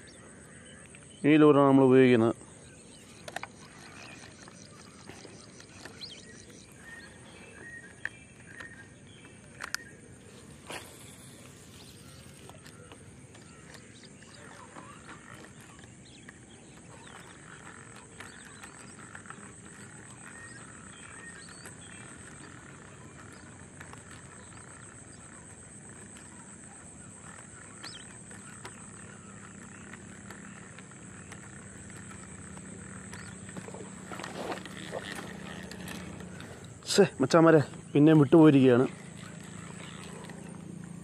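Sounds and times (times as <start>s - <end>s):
small clicks: 3.1s - 37.0s.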